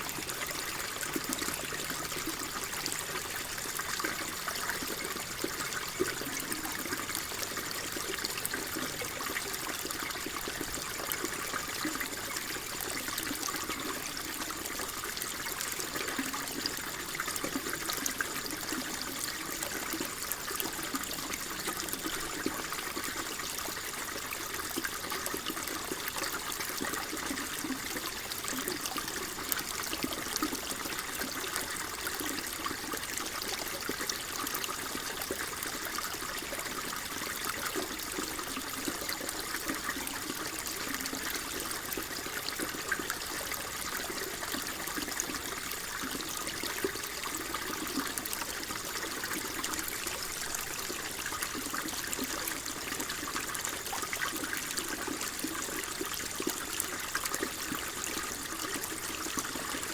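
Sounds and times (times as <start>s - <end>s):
stream trickling and babbling: 0.0s - 59.9s.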